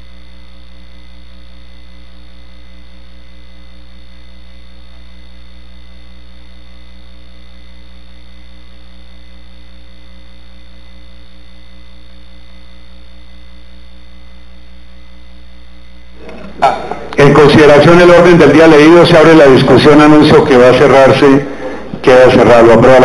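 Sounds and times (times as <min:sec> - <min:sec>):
electrical hum with fixed tones: 0:00.0 - 0:23.0.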